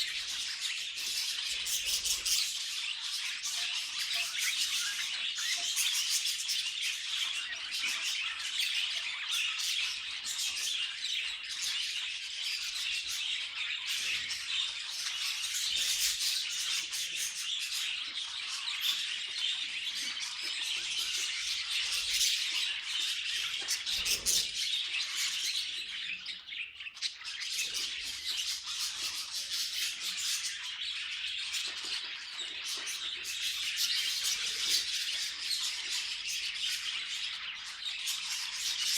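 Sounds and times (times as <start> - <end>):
budgies chattering and chirping: 0.0 - 38.9.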